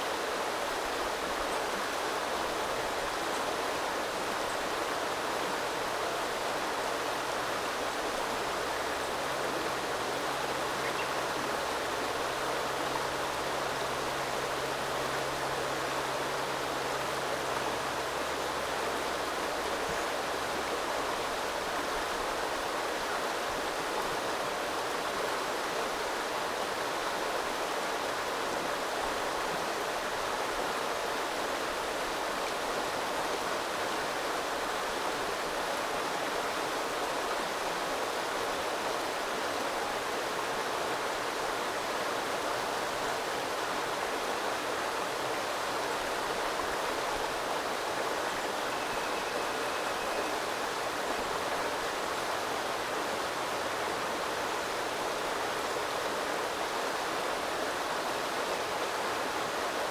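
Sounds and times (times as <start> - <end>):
small river flowing: 0.0 - 59.9.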